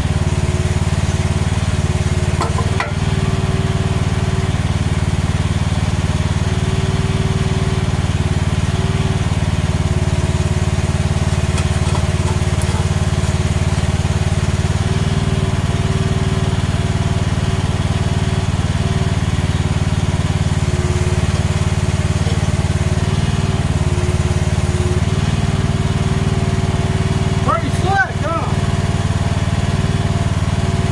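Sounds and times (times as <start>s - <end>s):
excavator engine running: 0.0s - 30.9s.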